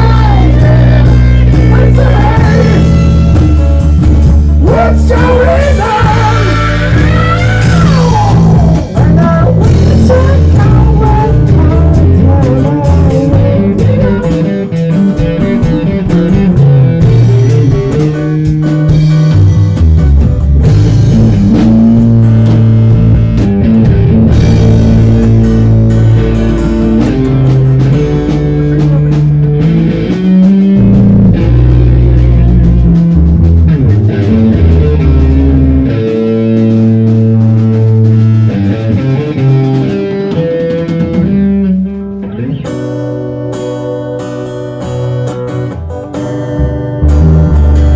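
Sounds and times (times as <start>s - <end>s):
bending guitar melody: 0.0s - 47.9s
rock band playing: 0.0s - 47.9s.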